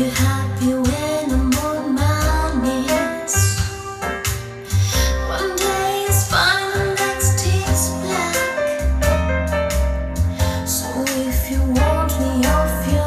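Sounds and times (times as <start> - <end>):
song with singer over loudspeaker: 0.0 - 9.2, 10.3 - 13.0
deep bass notes: 0.0 - 13.0.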